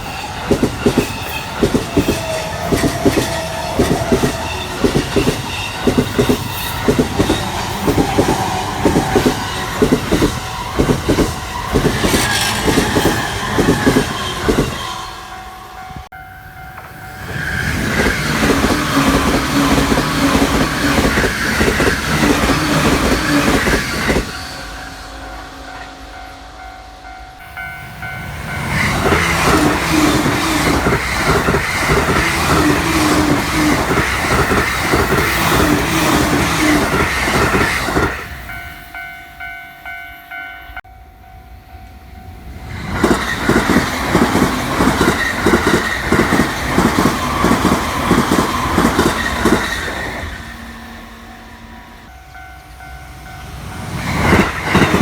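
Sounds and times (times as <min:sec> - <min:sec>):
clickety-clack of train wheels: 0:00.0 - 0:16.1, 0:16.7 - 0:24.8, 0:28.1 - 0:38.6, 0:42.6 - 0:50.7, 0:52.0 - 0:55.0
passing train whine: 0:00.0 - 0:55.0.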